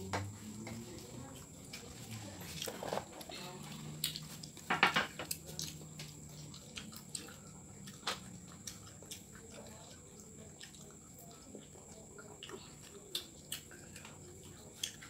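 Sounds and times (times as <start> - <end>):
children chewing with open mouths: 0.0 - 15.0.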